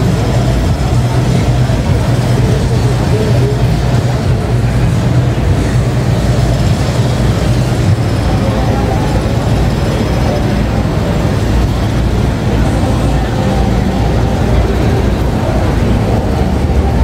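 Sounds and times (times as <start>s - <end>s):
traffic rumble: 0.0s - 17.0s
voices of passers-by: 0.0s - 17.0s.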